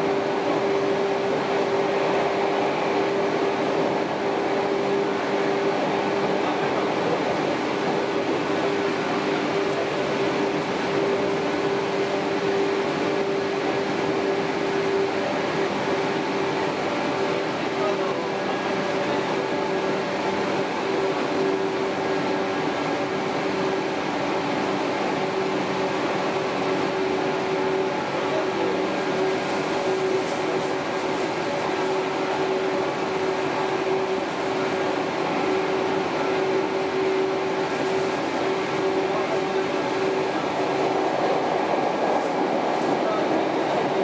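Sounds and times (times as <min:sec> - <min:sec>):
constant hum: 0:00.0 - 0:44.0
train cabin rumble: 0:00.0 - 0:44.0.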